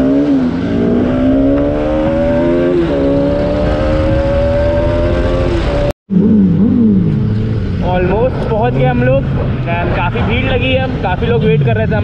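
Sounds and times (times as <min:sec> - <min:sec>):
motorcycle engine accelerating: 0:00.0 - 0:09.7
rush of wind: 0:00.0 - 0:12.0.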